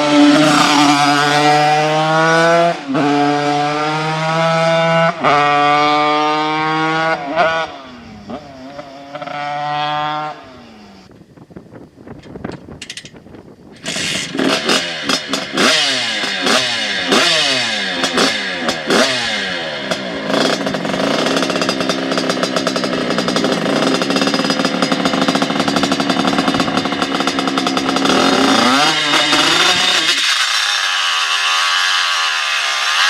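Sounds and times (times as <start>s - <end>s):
moped engine revving: 0.0s - 11.0s, 13.7s - 33.0s.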